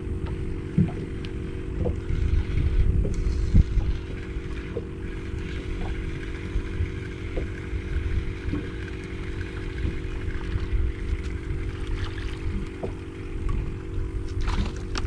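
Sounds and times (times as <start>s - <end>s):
boat motor humming: 0.0s - 15.0s
wind rumbling on microphone: 0.0s - 15.0s.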